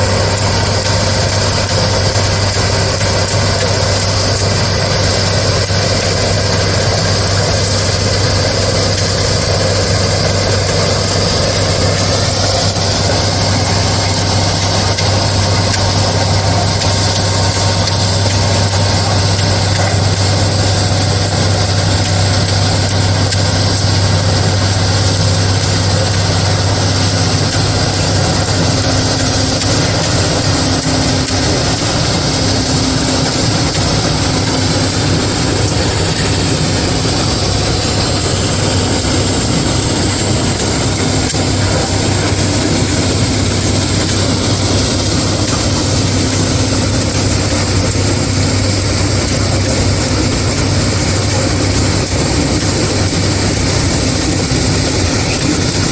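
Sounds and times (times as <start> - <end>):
large engine droning: 0.0 - 55.9.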